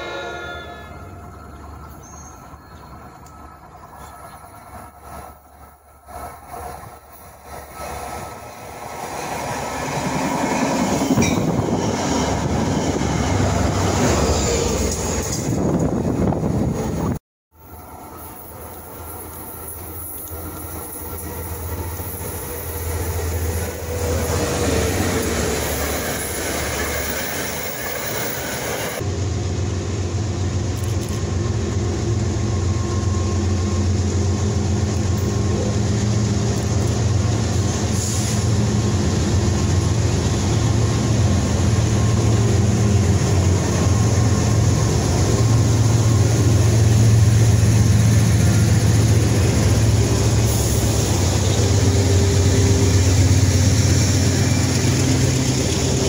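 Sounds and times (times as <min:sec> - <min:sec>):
diesel locomotives droning: 0:00.0 - 0:56.0
passenger train passing: 0:00.0 - 0:56.0.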